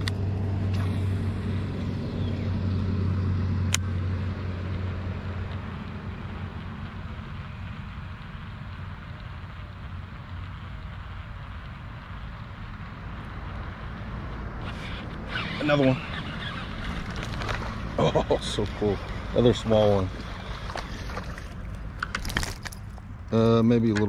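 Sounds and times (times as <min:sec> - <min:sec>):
traffic hum: 0:00.0 - 0:24.0
vehicle passing with low rumble: 0:00.0 - 0:24.0.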